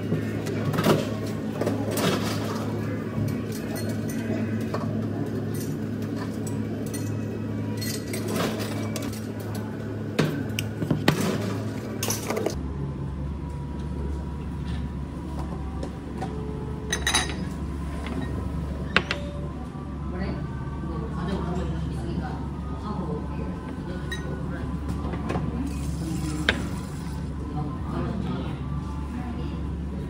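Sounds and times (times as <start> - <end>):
kitchen equipment humming: 0.0 - 30.0.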